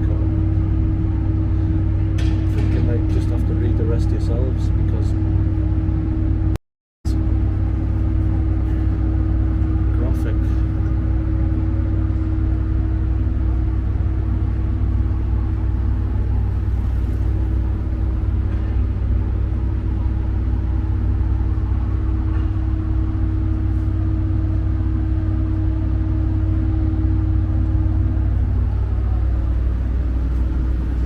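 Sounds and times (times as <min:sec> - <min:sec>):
low rumble: 0:00.0 - 0:31.0
vending machines humming: 0:00.0 - 0:31.0.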